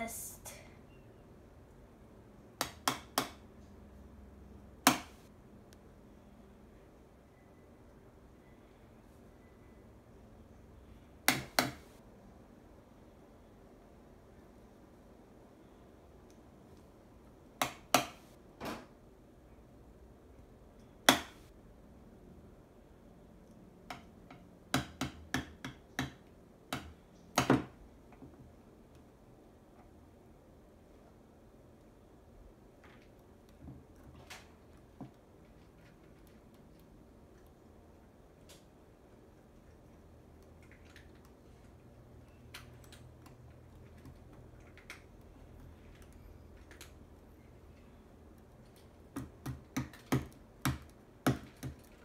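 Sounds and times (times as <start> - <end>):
low steady hum: 0.0 - 24.8, 26.1 - 52.0.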